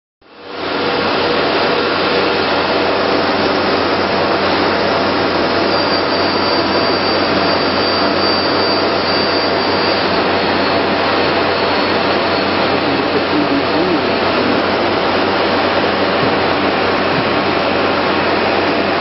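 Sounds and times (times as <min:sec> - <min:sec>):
faint high whine: 0:00.5 - 0:19.0
machine and dust extraction rushing: 0:00.7 - 0:19.0.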